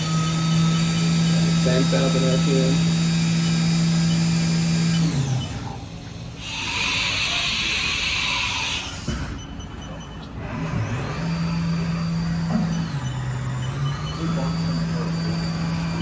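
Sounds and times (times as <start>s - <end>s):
machine spindle whining: 0.0s - 16.0s.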